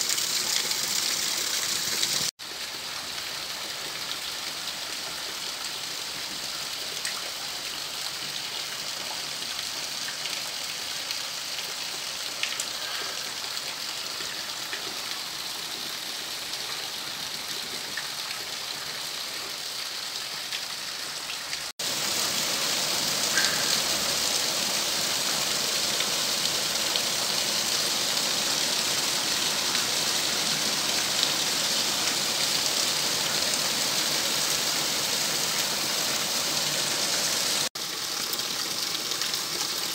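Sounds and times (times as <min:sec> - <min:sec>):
heavy rain on roofs and trees: 0:00.0 - 0:39.9.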